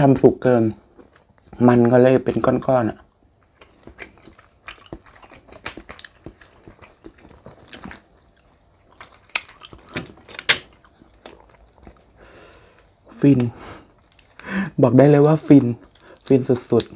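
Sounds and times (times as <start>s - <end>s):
close chewing: 2.9s - 16.9s.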